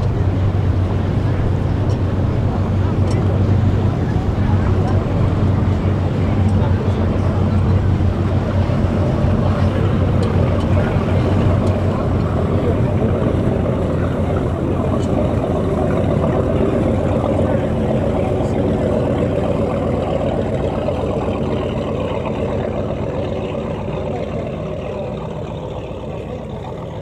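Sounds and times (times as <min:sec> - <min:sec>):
low engine rumble: 0:00.0 - 0:27.0
outdoor noise: 0:00.0 - 0:27.0.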